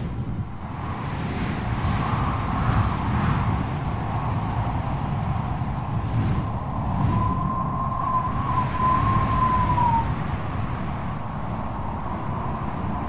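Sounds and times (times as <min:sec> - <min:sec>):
storm wind howling: 0:00.0 - 0:13.0.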